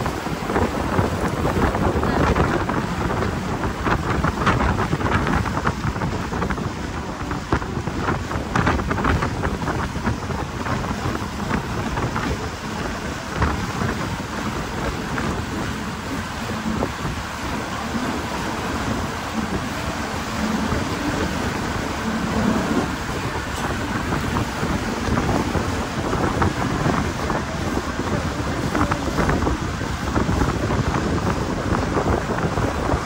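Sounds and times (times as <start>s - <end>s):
motorboat running: 0.0s - 33.0s
water hissing along hull: 0.0s - 33.0s
wind rushing over microphone: 0.0s - 33.0s.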